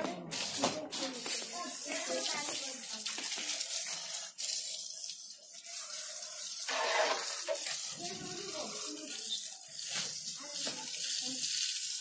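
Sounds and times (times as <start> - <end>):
hose spraying water: 0.3 - 12.0.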